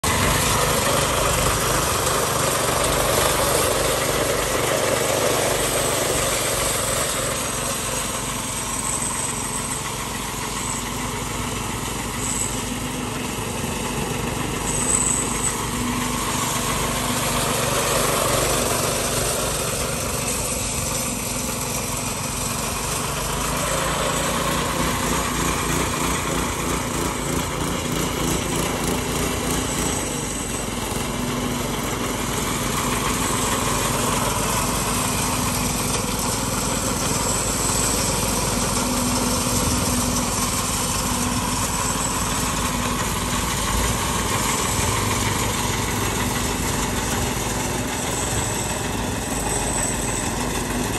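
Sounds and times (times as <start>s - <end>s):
power trowel engine running: 0.0s - 50.9s.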